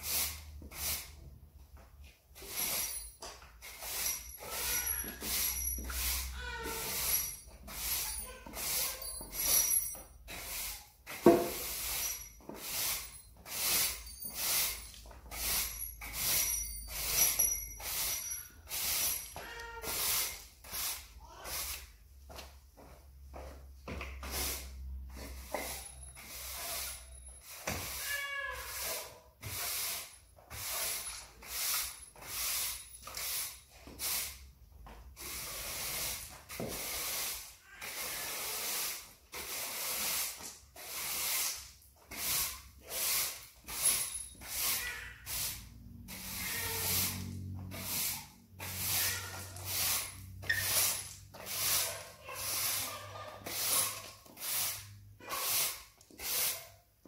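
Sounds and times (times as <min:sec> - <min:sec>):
broom sweeping concrete floor: 0:00.0 - 0:57.0.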